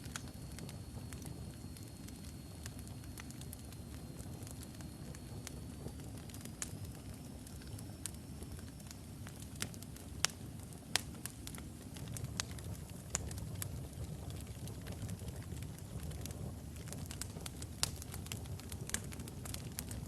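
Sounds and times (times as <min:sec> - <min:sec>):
logs burning with crackles: 0:00.0 - 0:20.0.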